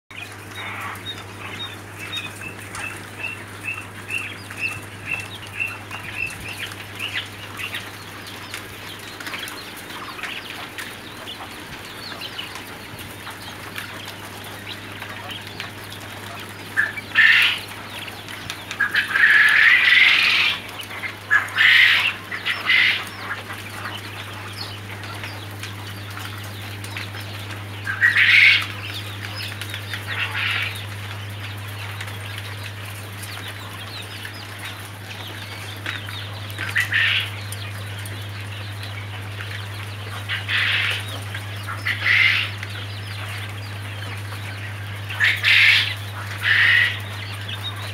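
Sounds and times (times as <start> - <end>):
poultry calls in clusters: 0.1 - 47.9
poultry peeping: 0.1 - 47.9
steady low hum: 0.1 - 47.9.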